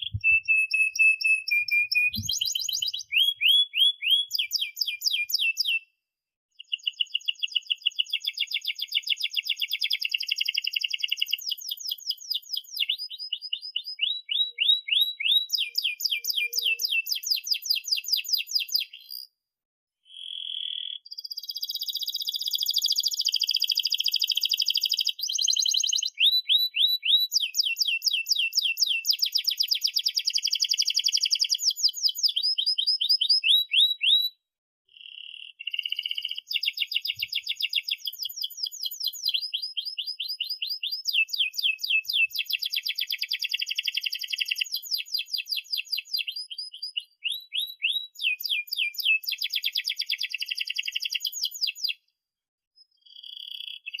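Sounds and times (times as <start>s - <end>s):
canary singing trills: 0.0s - 5.9s, 6.6s - 19.3s, 20.1s - 34.3s, 34.9s - 52.0s, 52.8s - 54.0s.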